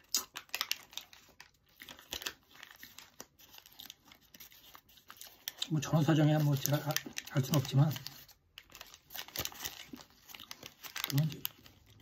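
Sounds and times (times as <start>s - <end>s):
paper wrapper crinkling: 0.0s - 12.0s.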